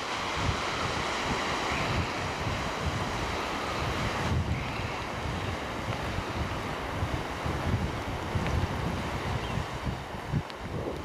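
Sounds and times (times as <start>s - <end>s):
sea waves on rocky shore: 0.0s - 11.0s
wind buffeting microphone: 0.0s - 11.0s.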